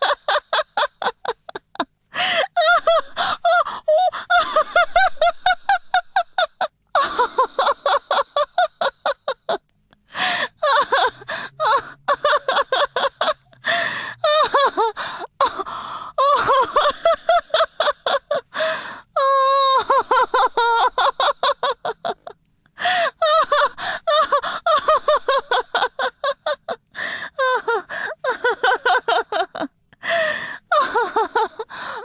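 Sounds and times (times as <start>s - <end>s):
woman laughing hard: 0.0s - 32.0s.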